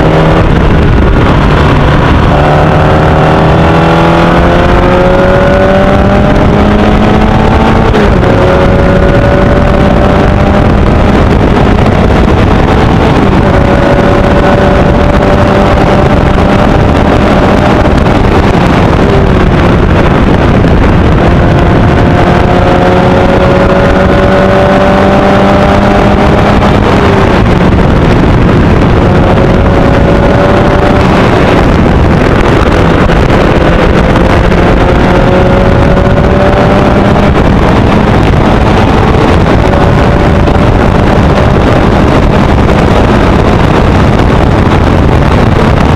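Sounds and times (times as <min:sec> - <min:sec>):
race car engine revving: 0:00.0 - 0:45.9
wind rush on microphone: 0:00.0 - 0:45.9.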